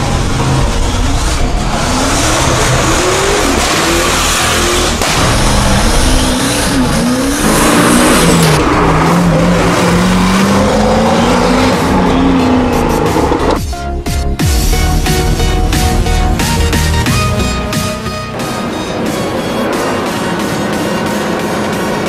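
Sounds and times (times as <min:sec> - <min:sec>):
car engine revving: 0:00.0 - 0:13.7, 0:14.7 - 0:22.0.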